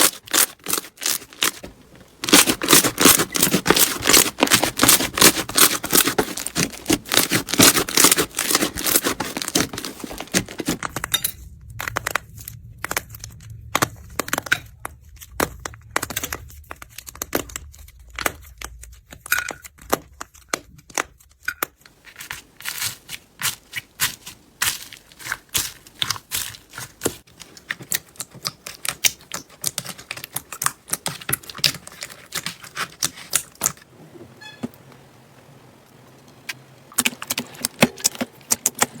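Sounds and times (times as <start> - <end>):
slime crackling and popping: 0.0 - 33.8.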